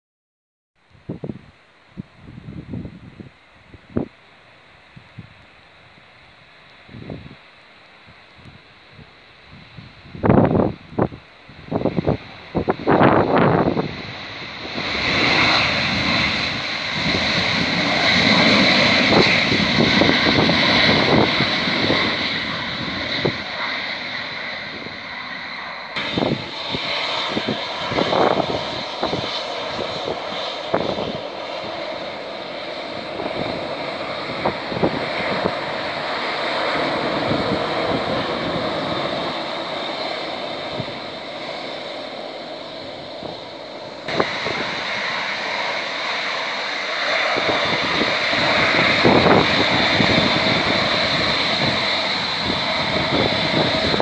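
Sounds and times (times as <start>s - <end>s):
jet engines roaring: 1.1s - 54.0s
jet engines whining: 1.1s - 54.0s.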